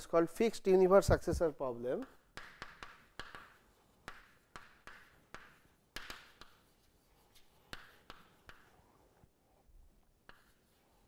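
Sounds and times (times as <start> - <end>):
chalk writing on chalkboard: 2.0 - 11.0.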